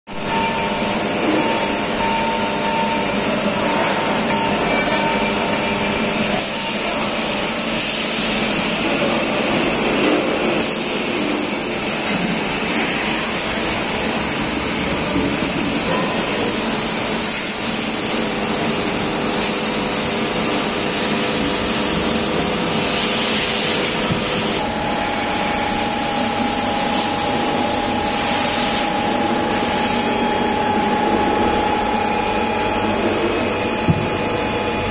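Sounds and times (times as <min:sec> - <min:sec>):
machinery whirring hum with hiss: 0:00.1 - 0:34.9.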